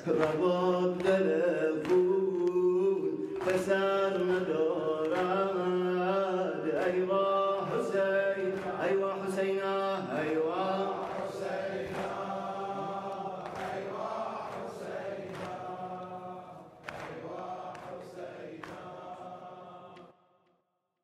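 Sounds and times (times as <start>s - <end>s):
male voices chanting: 0.0s - 20.1s.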